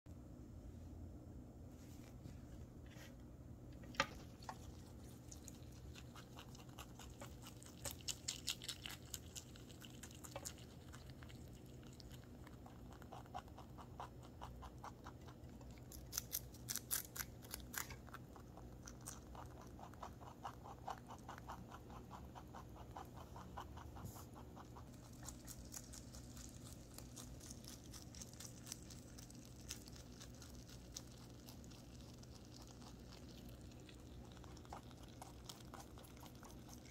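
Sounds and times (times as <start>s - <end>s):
faint low hum: 0.1s - 36.9s
rabbit chewing crisp greens: 1.8s - 36.9s.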